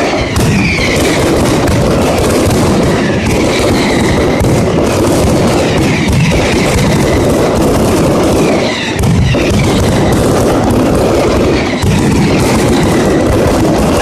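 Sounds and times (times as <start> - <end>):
firecracker bangs: 0.0 - 14.0.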